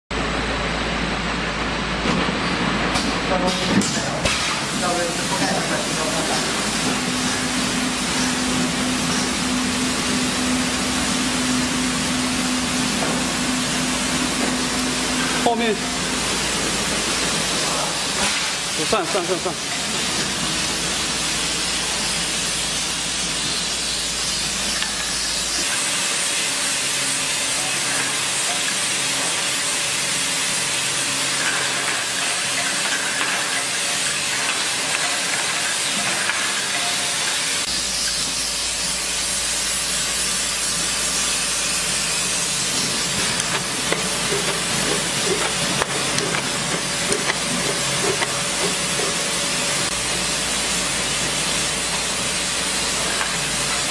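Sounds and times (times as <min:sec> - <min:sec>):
faint machine hum: 0:00.1 - 0:53.9.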